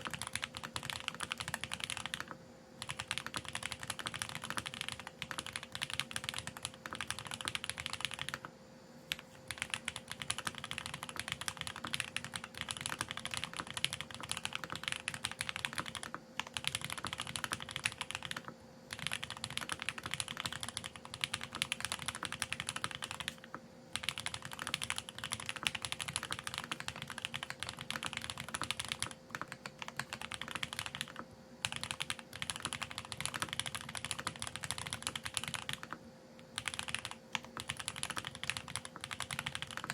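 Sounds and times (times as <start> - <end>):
mechanical keyboard typing: 0.0 - 8.5, 9.1 - 39.9.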